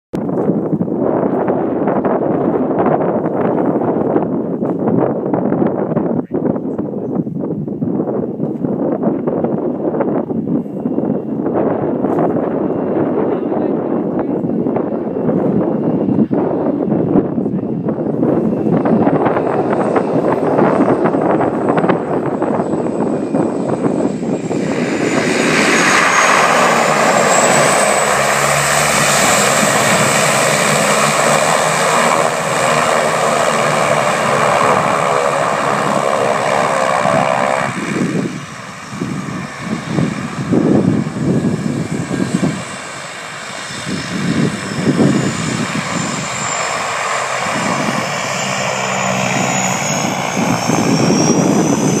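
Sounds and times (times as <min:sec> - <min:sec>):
high turbine whine: 0:00.2 - 0:52.0
turboprop engines running: 0:00.2 - 0:52.0.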